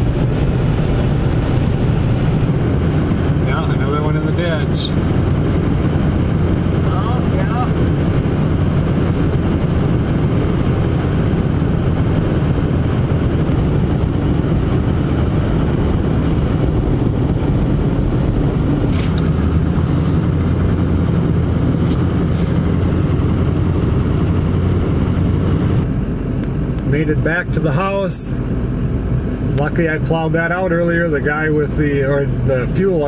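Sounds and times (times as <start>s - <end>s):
vehicle cabin road noise: 0.0s - 33.0s.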